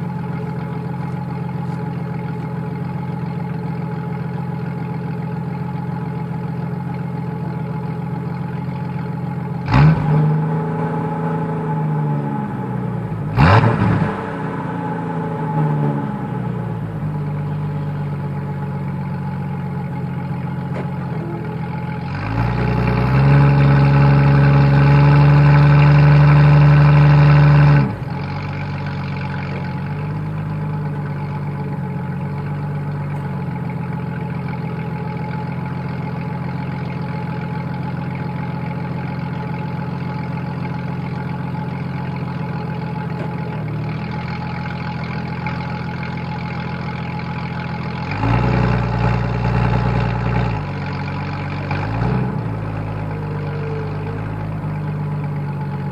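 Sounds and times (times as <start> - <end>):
car engine idling and revving: 0.0 - 55.9.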